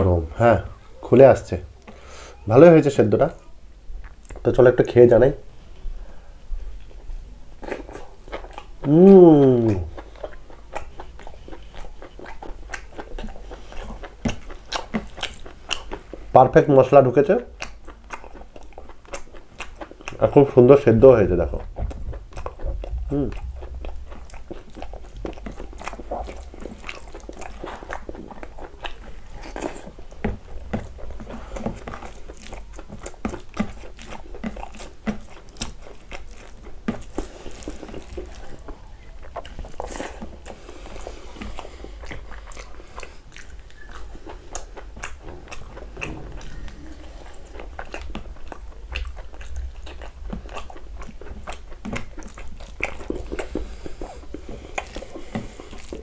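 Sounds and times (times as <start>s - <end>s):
man chewing with wet smacks: 0.6s - 4.9s, 5.7s - 56.0s.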